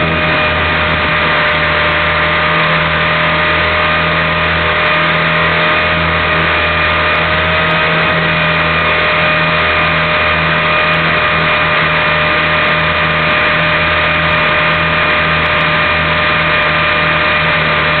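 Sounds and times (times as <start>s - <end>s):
model helicopter motor whine: 0.0s - 18.0s
rotor noise: 0.0s - 18.0s.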